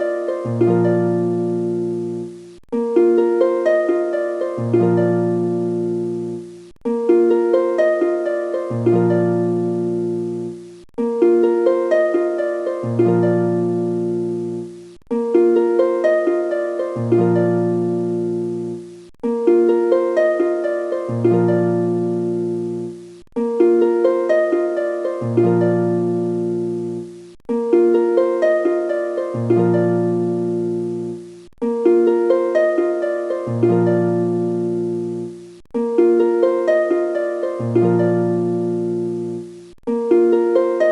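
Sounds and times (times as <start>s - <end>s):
harp-like plucked-string phrase: 0.0s - 40.9s.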